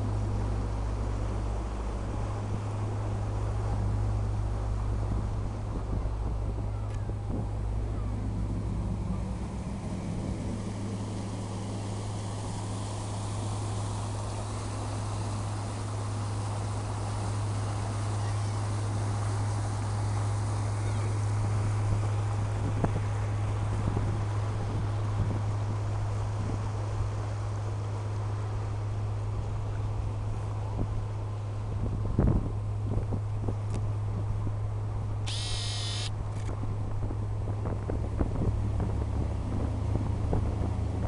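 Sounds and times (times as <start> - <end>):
boat engine droning: 0.0 - 41.0
water rushing in wake: 0.0 - 41.0.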